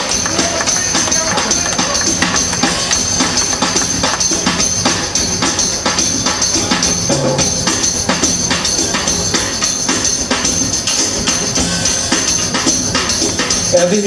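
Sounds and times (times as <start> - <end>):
big band playing live: 0.0 - 14.0
jingling high percussion: 0.0 - 14.0.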